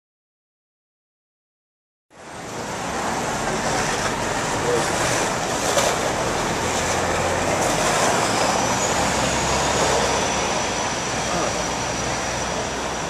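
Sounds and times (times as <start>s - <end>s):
passing traffic: 2.1s - 13.0s.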